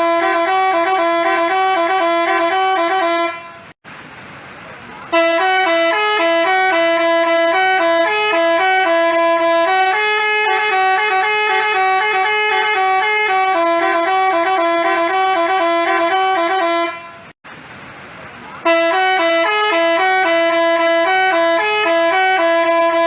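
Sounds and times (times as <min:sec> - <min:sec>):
bus horn playing a melody: 0:00.0 - 0:03.8, 0:05.1 - 0:17.4, 0:18.6 - 0:23.0.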